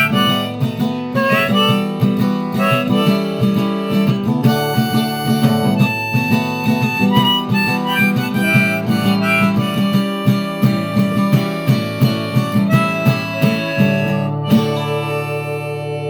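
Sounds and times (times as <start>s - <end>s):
melody of held notes: 0.0s - 16.0s
plucked-string accompaniment: 0.0s - 16.0s.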